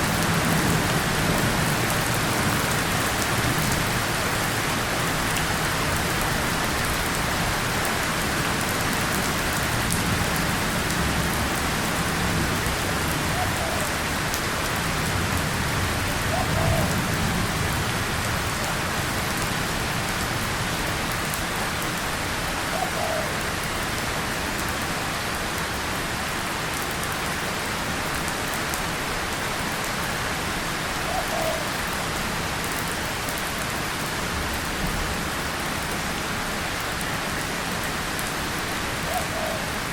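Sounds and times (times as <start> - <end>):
rain on a tin surface: 0.0 - 39.9.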